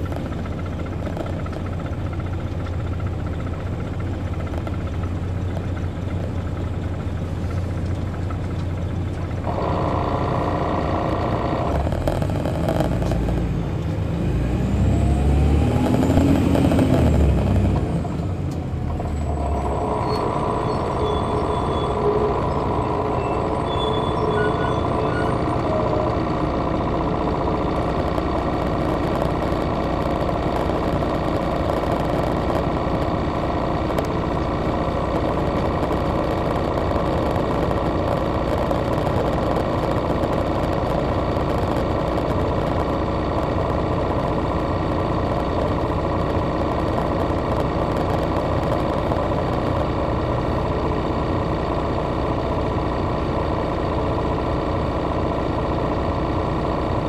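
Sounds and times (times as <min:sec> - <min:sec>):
coach diesel engine running: 0:00.0 - 0:57.0
engine whine: 0:00.0 - 0:57.0.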